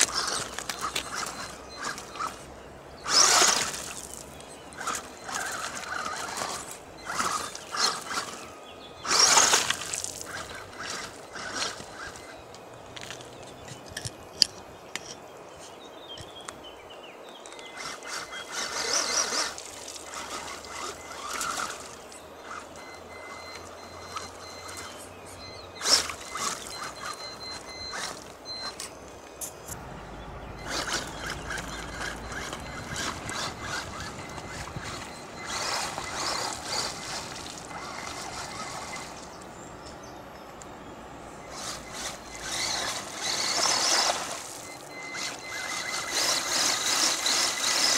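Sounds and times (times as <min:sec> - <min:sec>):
electric motor whining: 0:00.0 - 0:13.7, 0:17.5 - 0:40.2, 0:41.2 - 0:47.9.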